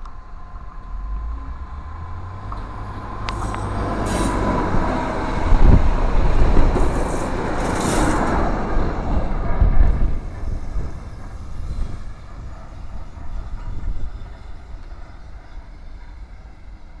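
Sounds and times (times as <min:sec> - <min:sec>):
locomotive rumble: 0:00.0 - 0:17.0.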